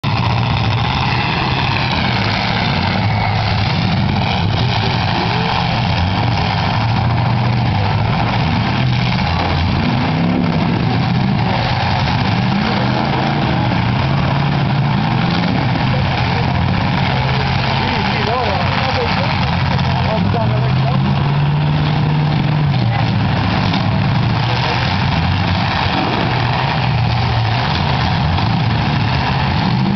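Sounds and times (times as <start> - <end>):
car engines idling and revving: 0.0 - 29.9.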